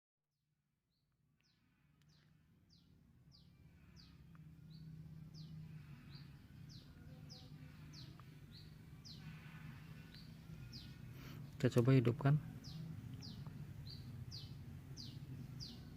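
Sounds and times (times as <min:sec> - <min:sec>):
faint low hum: 0:01.2 - 0:15.9
bird chirping: 0:01.4 - 0:15.9.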